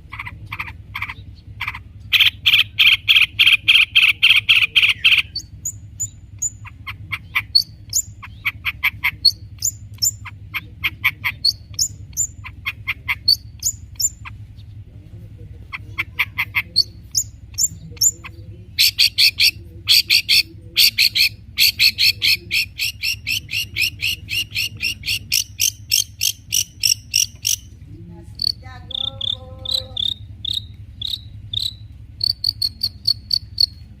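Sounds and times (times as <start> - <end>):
shrike singing: 0.0 - 14.9, 15.6 - 34.0.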